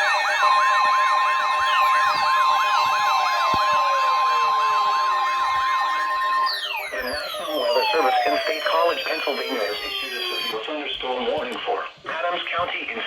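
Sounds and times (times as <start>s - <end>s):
electronic wailing siren: 0.0s - 10.6s
sliding tones dropping in pitch: 0.0s - 10.6s
steady alarm tone: 0.0s - 10.6s.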